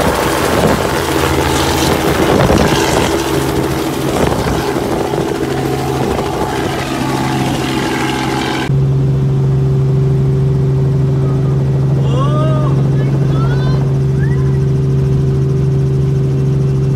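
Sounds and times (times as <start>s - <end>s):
helicopter flying: 0.0s - 16.9s
steady low hum: 0.0s - 16.9s.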